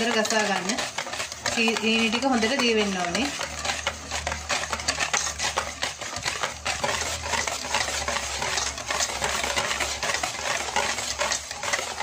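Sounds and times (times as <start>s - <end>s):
wire whisk clinking in metal bowl: 0.0s - 12.0s.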